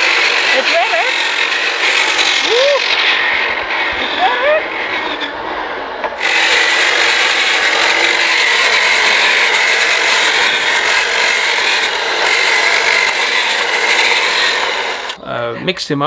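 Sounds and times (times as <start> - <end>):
brush scraping paving stones: 0.0 - 5.1, 6.0 - 15.2
electric weed cleaner motor whining: 0.0 - 15.2.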